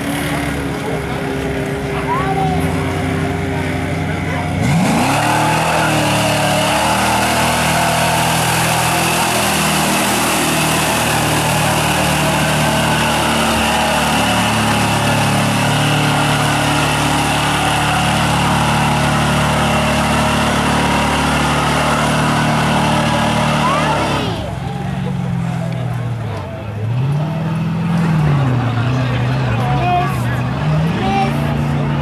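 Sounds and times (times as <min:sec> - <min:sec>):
tires churning through mud: 0:00.0 - 0:32.0
truck engine under load: 0:00.0 - 0:32.0.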